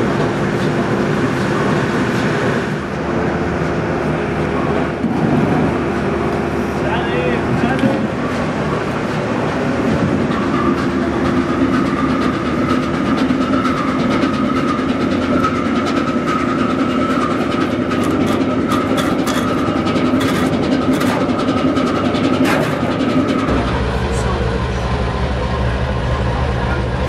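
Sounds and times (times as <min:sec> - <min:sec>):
diesel engines droning: 0:00.0 - 0:27.0.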